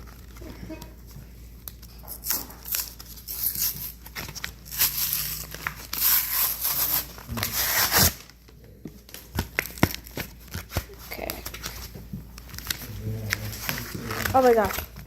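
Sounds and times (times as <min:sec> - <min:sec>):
wrapper being torn and crinkled: 0:01.6 - 0:08.4, 0:09.1 - 0:15.0.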